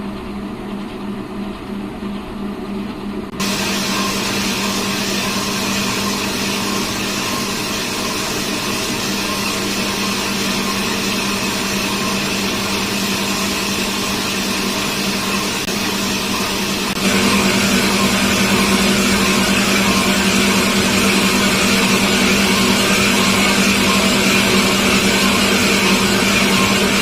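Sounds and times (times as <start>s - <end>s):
lathe low hum: 0.0s - 27.0s
hissing machining noise: 3.4s - 27.0s.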